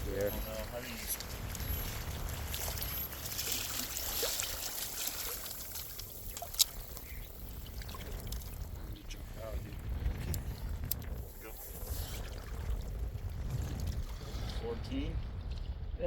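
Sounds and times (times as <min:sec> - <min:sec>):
water splashing and trickling: 0:00.0 - 0:15.8.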